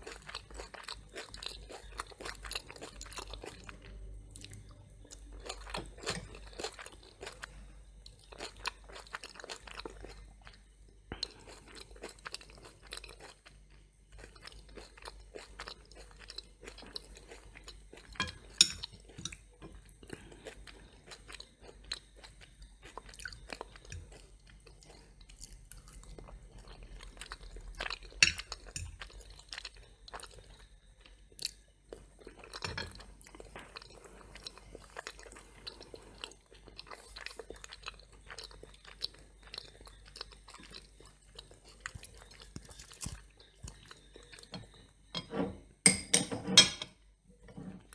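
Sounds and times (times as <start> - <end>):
chewing crunchy toast: 0.0 - 45.1.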